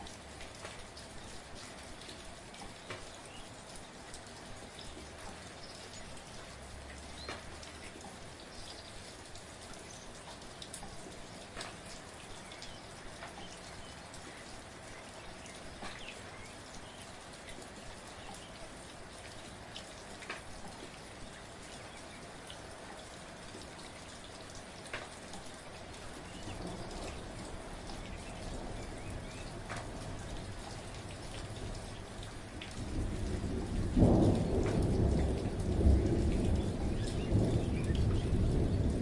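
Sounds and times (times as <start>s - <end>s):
raindrops ticking close by: 0.0s - 39.0s
soft rain hiss: 0.0s - 39.0s.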